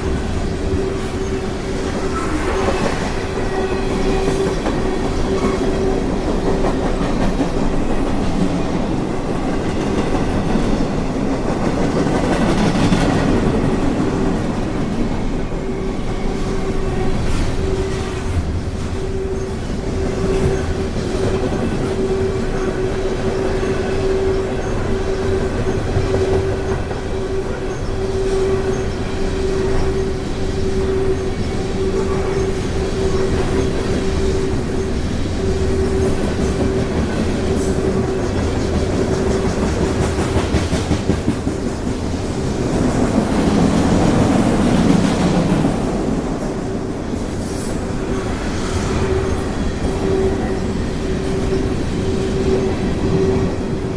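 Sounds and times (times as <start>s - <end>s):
wheels clacking on rail: 0.0s - 53.9s.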